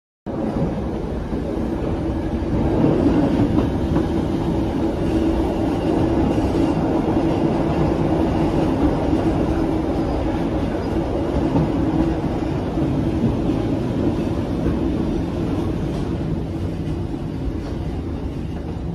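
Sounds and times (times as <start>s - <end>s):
train wheels rumbling on rails: 0.3s - 18.9s.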